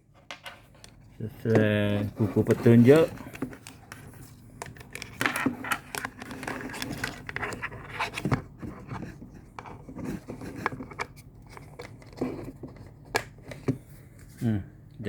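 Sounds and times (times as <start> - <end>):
plastic clicks and scrapes: 1.6 - 13.8.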